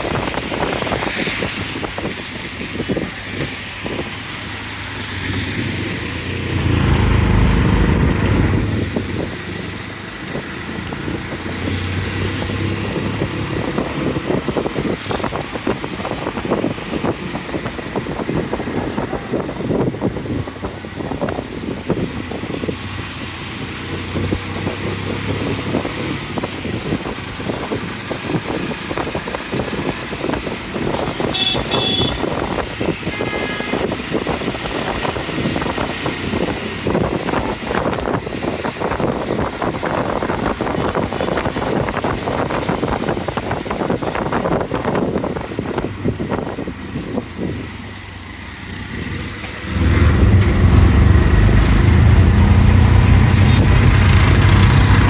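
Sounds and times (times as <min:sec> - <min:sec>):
heavy rain on a street: 0:00.0 - 0:55.0
traffic engines: 0:00.0 - 0:55.0
loud low engine rumble: 0:03.8 - 0:32.9, 0:34.2 - 0:55.0.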